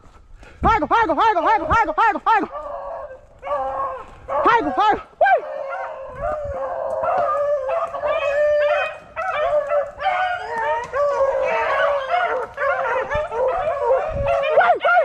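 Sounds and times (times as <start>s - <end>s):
pack of hounds baying: 2.4s - 15.0s.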